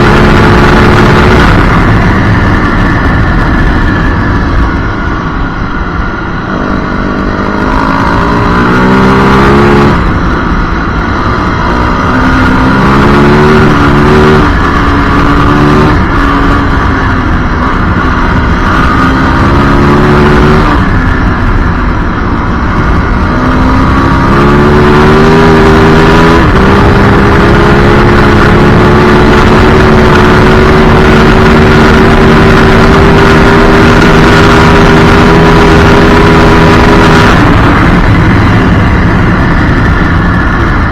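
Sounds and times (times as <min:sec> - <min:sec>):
motorcycle engine accelerating hard: 0:00.0 - 0:40.9.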